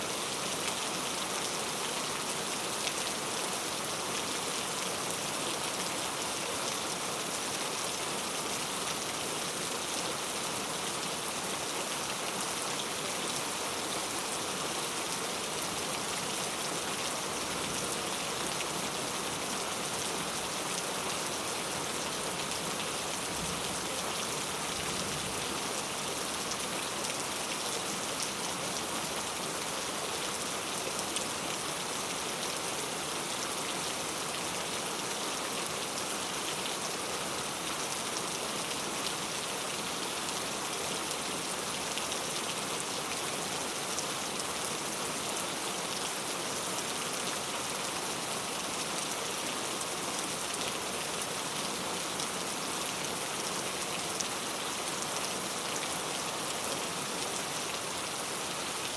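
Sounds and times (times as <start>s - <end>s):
heavy rain on hard surfaces: 0.0s - 58.9s.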